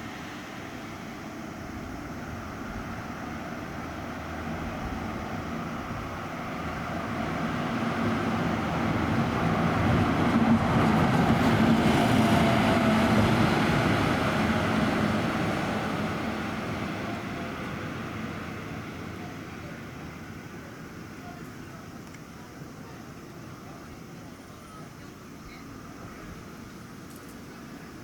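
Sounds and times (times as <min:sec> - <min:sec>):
bus driving past: 0:00.0 - 0:25.3.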